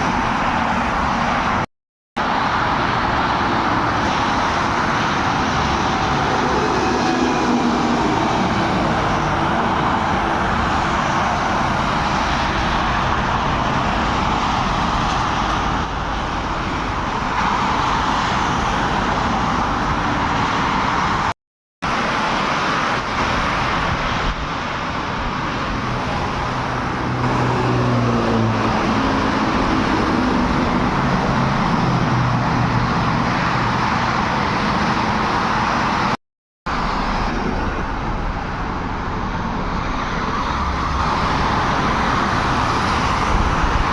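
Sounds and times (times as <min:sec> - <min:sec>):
road traffic rush: 0:00.0 - 0:43.9.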